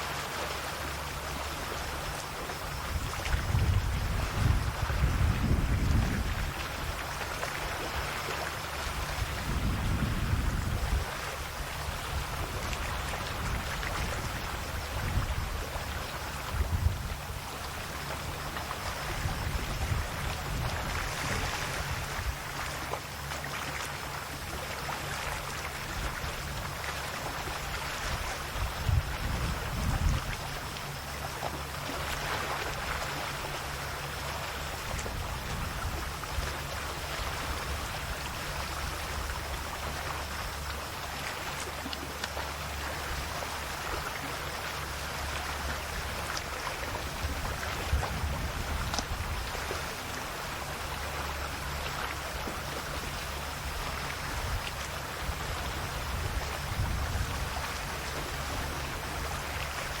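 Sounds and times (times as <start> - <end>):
waves lapping on shore: 0.0 - 60.0
steady low rumble: 0.6 - 60.0.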